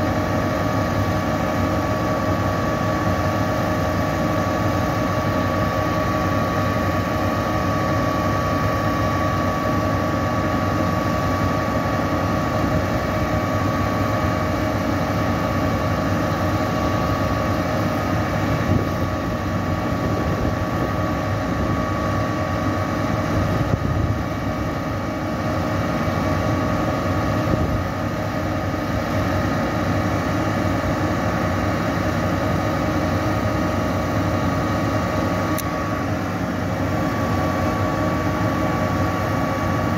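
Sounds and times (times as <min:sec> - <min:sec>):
diesel engine running: 0:00.0 - 0:39.9
high hydraulic whine: 0:00.0 - 0:39.9.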